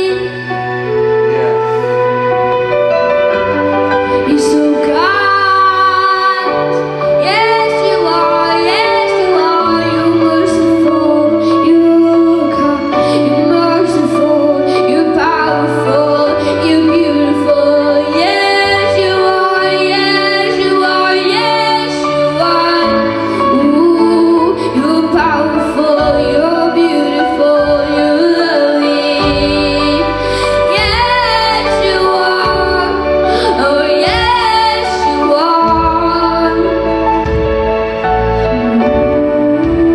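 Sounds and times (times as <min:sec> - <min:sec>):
woman singing: 0:00.0 - 0:01.0, 0:04.0 - 0:37.5, 0:38.4 - 0:39.9
instrumental accompaniment with bass: 0:00.0 - 0:39.9.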